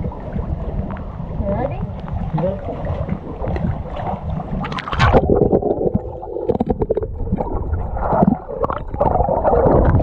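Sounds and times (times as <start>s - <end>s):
muffled underwater bubbling: 0.0s - 10.0s
water sloshing and gurgling: 0.0s - 10.0s.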